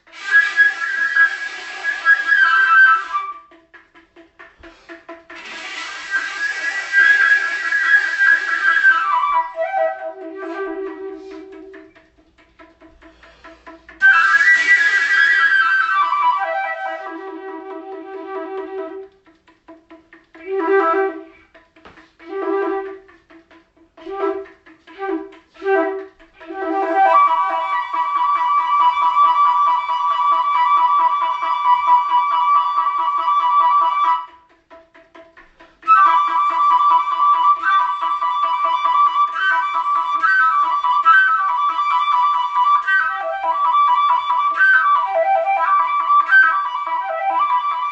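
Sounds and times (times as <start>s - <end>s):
flute-like wind instrument: 0.0s - 47.9s.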